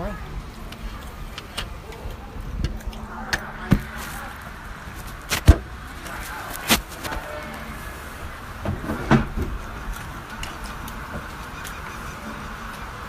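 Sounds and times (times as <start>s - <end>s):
faint background murmur: 0.0s - 13.0s.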